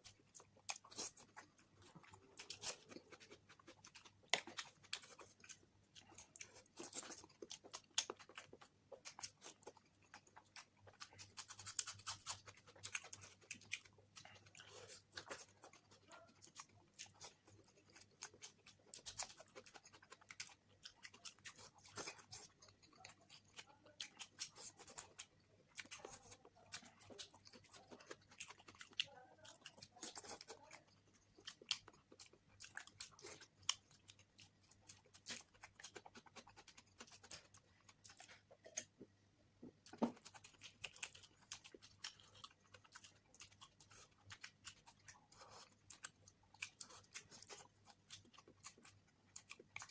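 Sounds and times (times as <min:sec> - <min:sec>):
person chewing: 0:00.0 - 0:49.9.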